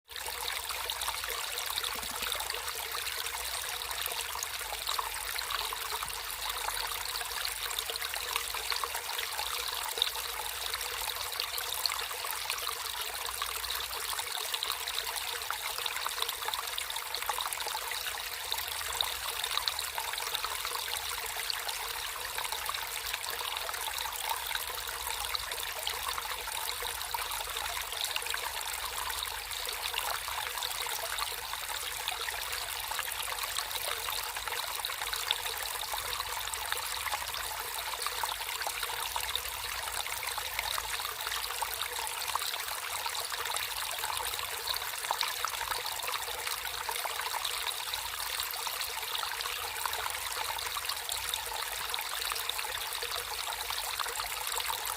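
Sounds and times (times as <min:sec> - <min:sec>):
stream babbling over stones: 0:00.1 - 0:54.9.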